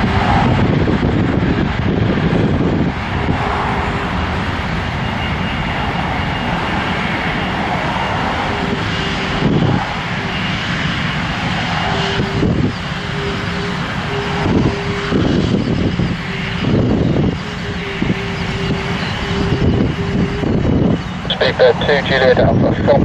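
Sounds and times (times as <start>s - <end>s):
high engine whine: 0.0s - 23.0s
jet engines rushing: 0.0s - 23.0s.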